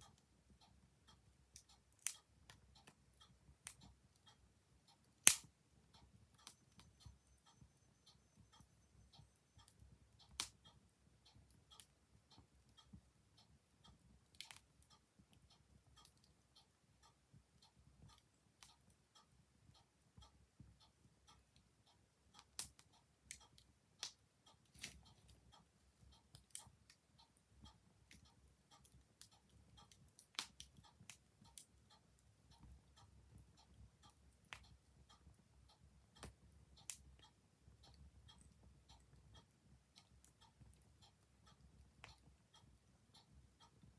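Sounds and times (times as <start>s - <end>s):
clock ticking: 0.0s - 43.9s.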